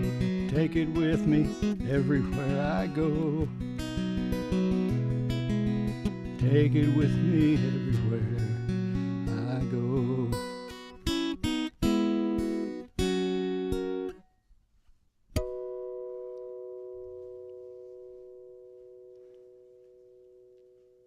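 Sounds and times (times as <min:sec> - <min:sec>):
acoustic guitar picking and strumming: 0:00.0 - 0:14.3, 0:15.3 - 0:20.9.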